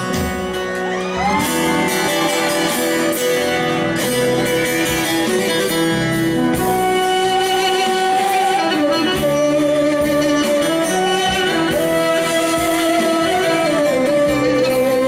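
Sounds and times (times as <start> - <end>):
live folk band music: 0.0 - 15.0.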